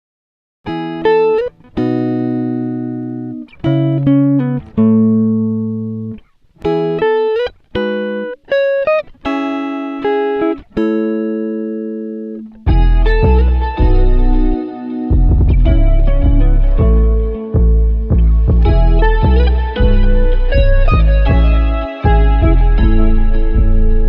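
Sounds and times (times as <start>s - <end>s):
plucked guitar notes and chords: 0.7s - 24.0s.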